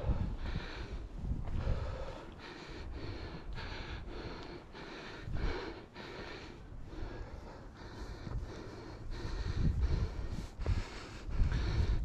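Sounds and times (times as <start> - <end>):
heavy breathing through a mask: 0.0 - 12.0.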